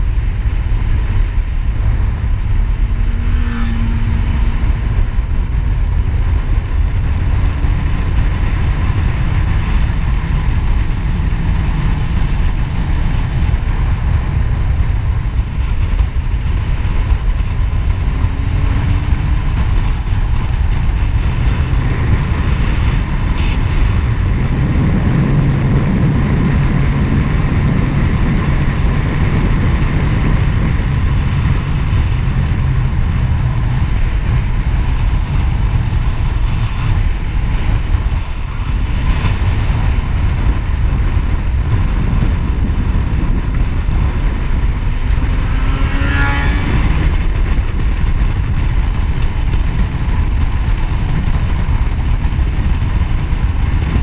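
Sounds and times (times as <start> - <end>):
motorcycle engine hum: 0.0 - 54.0
wind noise on microphone: 0.0 - 54.0.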